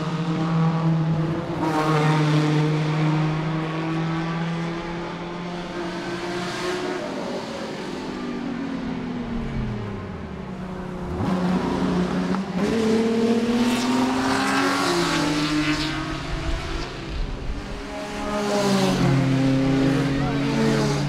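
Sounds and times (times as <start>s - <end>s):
racing cars passing at speed: 0.0s - 21.0s.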